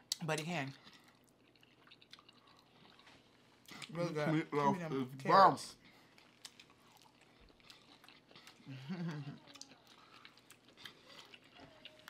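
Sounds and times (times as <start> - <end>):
chewing food: 0.0 - 4.0, 5.8 - 12.0.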